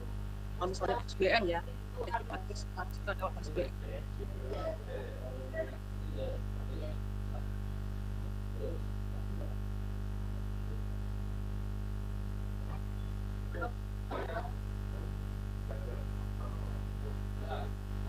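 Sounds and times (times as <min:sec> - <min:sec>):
electrical mains hum: 0:00.0 - 0:18.0
faint voice-like sounds: 0:00.9 - 0:11.5, 0:12.6 - 0:17.8.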